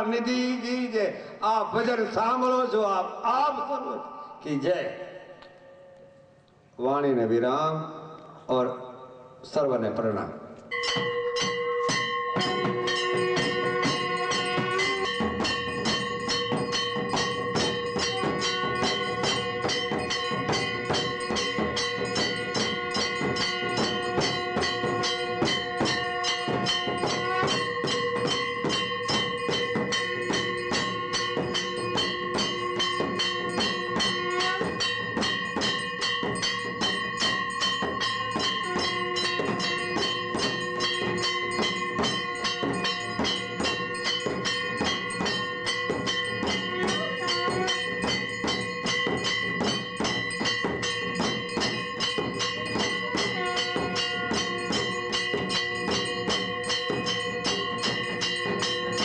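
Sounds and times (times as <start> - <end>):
temple bells and metal percussion: 0.0 - 8.7, 9.4 - 59.0.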